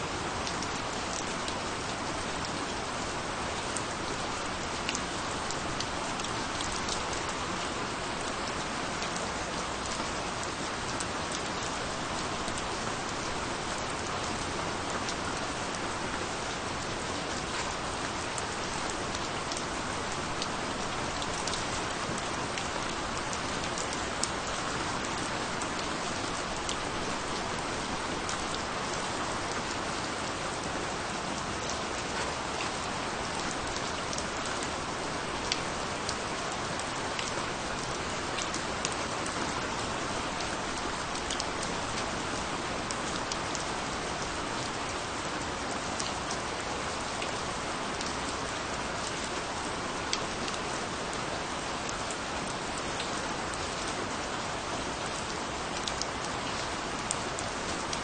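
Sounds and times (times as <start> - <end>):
steady rainfall: 0.0 - 58.0
raindrops ticking on surface: 0.1 - 58.0.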